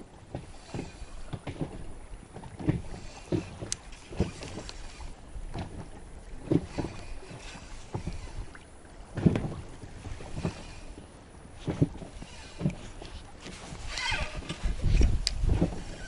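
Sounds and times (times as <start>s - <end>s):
waves lapping: 0.0s - 16.0s
wind on microphone: 0.0s - 16.0s.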